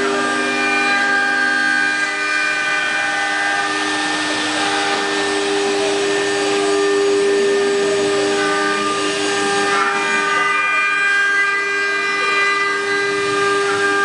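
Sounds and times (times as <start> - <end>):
router spindles whining: 0.0 - 14.0.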